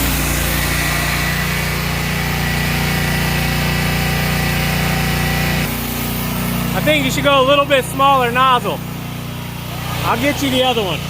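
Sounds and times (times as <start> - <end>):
engine running under load: 0.0 - 11.0
high-pressure water jet hissing: 0.0 - 11.0.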